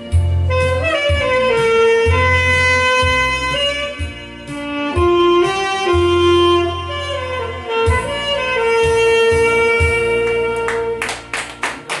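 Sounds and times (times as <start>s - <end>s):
saxophone melody: 0.0s - 11.9s
backing track with bass and drums: 0.0s - 12.0s.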